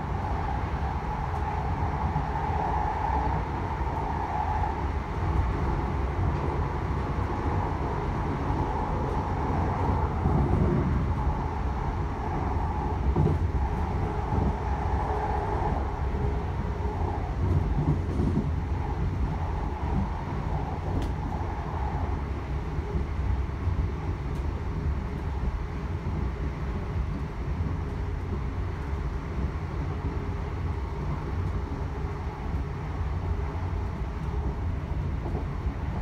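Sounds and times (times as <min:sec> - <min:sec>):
mid-pitched train hum: 0:00.0 - 0:36.0
train wheels rumbling on rails: 0:00.0 - 0:36.0.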